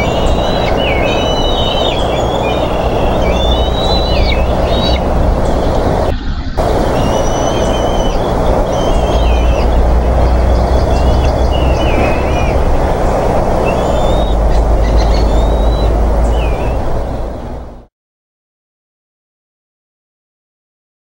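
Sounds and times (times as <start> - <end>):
whistled bird calls: 0.0 - 17.7
steady rumbling hiss: 0.0 - 17.9.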